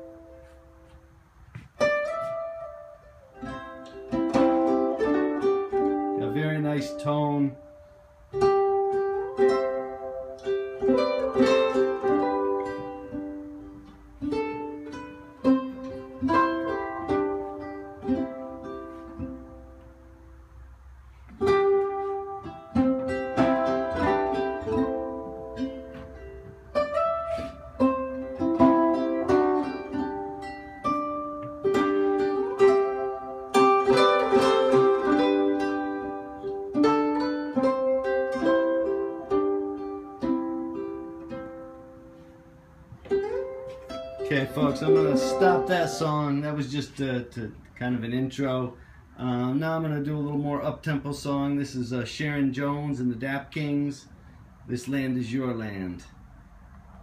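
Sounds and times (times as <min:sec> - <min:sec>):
plucked string instrumental music: 0:00.0 - 0:53.0.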